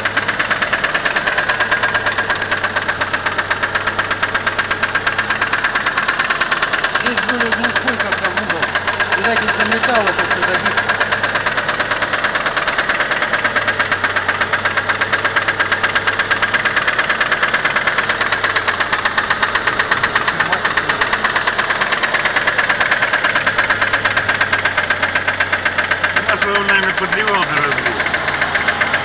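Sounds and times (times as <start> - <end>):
car engine idling: 0.0 - 29.0
rapid clacking from cylinder head: 0.0 - 29.0.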